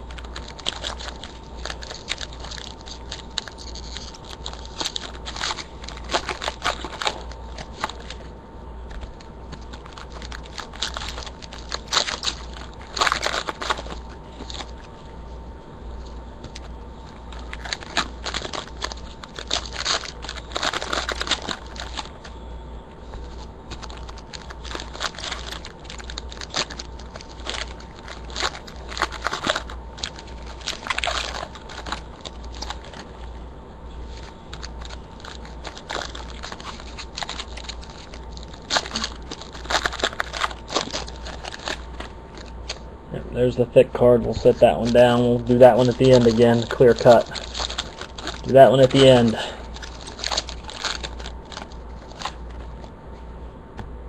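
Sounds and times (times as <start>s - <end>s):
wrappers crinkling and tearing: 0.0s - 22.4s, 23.0s - 42.8s, 43.4s - 52.9s
low electrical hum: 0.0s - 54.0s.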